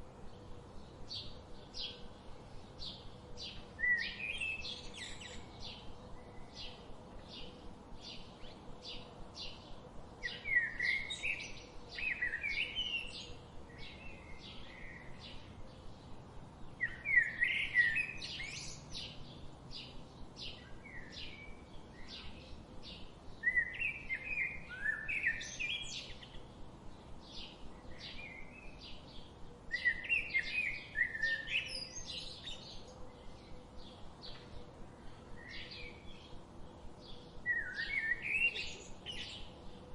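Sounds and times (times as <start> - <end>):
warbling bird song: 0.0 - 39.9.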